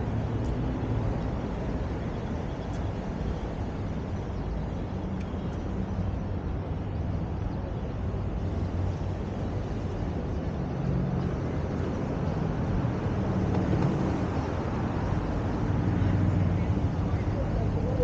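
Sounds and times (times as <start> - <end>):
city traffic: 0.0 - 18.0.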